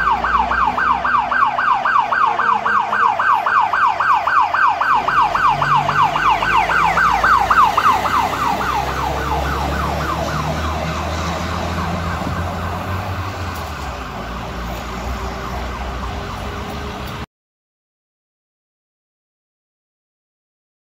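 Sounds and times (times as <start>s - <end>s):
fire engine siren yelping: 0.0s - 17.2s
truck engine rumble: 0.0s - 17.3s.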